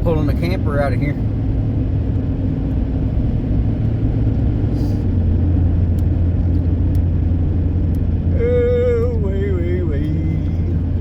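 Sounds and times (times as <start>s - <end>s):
road rumble: 0.0s - 11.0s
truck engine drone: 0.0s - 11.0s.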